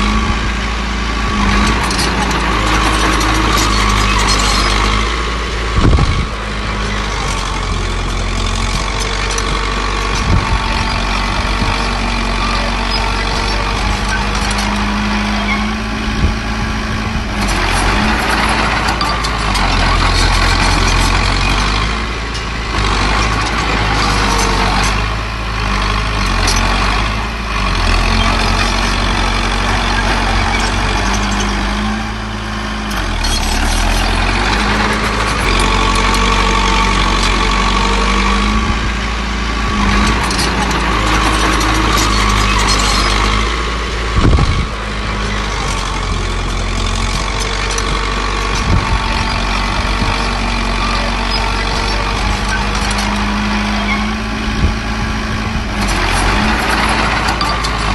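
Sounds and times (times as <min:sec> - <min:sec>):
diesel engines working: 0:00.0 - 0:57.9.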